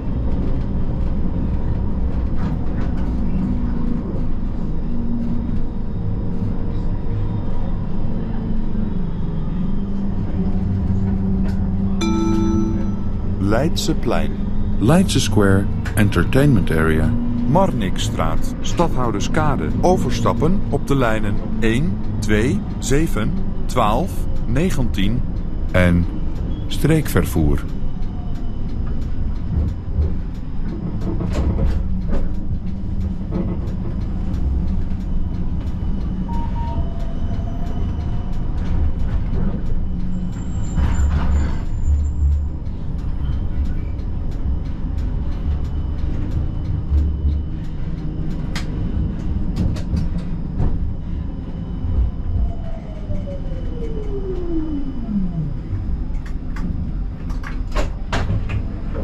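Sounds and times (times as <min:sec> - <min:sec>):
tram rumbling on rails: 0:00.0 - 0:59.0.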